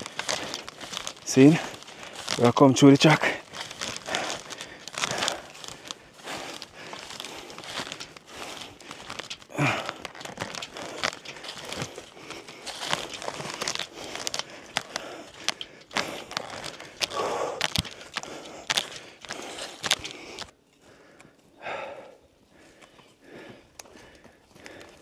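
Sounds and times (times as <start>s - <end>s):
luggage crinkling and rustling: 0.0s - 20.6s.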